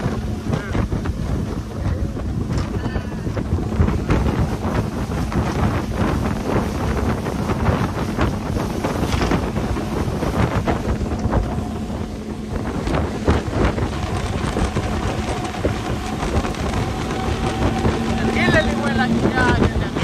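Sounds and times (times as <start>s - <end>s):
outboard motor hum: 0.0s - 20.0s
wind buffeting microphone: 0.0s - 20.0s.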